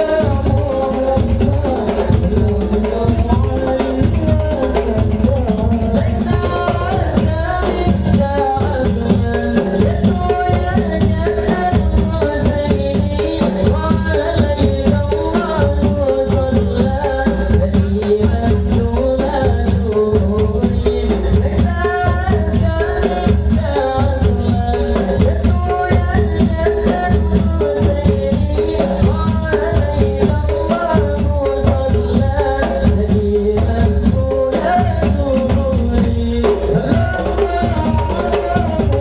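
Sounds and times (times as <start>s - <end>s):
frame drums playing fast rhythm: 0.0s - 39.0s.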